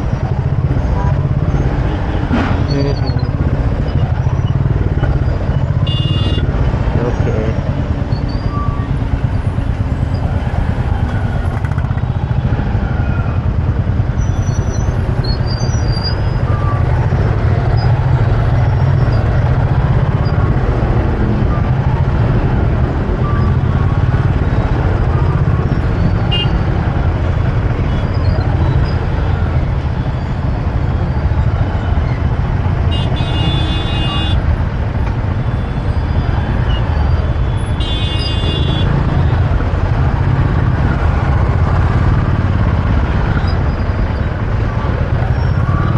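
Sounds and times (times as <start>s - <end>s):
motorbike engine and road noise: 0.0s - 45.9s.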